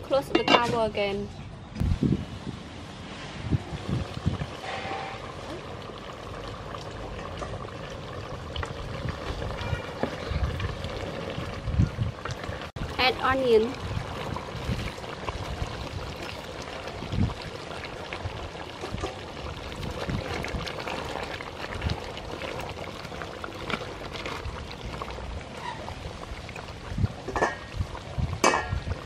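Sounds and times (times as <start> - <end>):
curry bubbling in a pot: 3.6 - 29.0.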